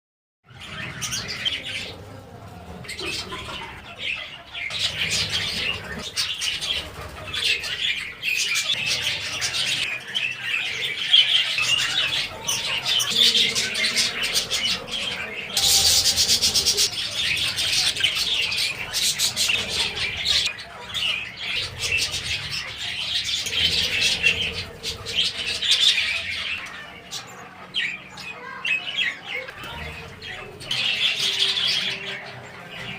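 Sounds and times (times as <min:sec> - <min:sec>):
small birds chirping: 0:00.4 - 0:32.9.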